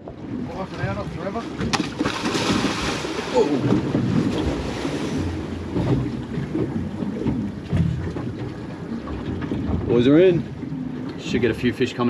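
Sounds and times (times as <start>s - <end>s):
water lapping against boat hull: 0.0s - 12.0s
wind buffeting microphone: 0.0s - 12.0s.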